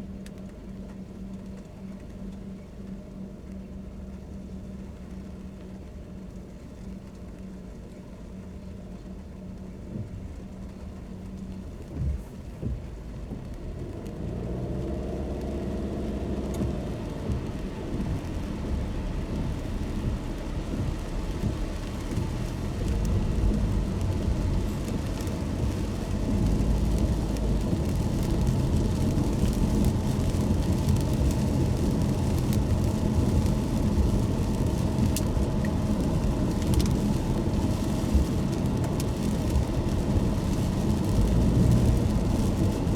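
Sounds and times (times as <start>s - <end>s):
rain on a car: 0.0s - 42.9s
tyres on wet road: 8.3s - 42.9s.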